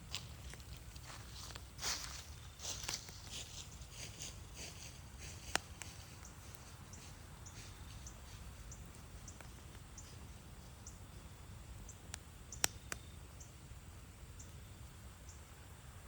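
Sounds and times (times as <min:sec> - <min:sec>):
campfire rumble and crackles: 0:00.0 - 0:16.0.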